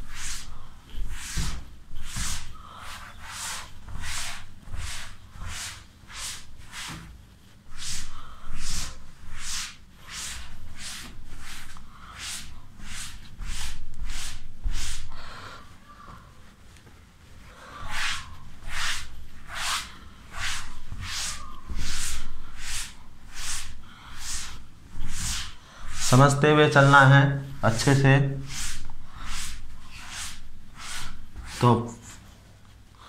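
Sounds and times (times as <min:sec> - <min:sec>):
cloth wiping a chalkboard: 0:00.0 - 0:33.0.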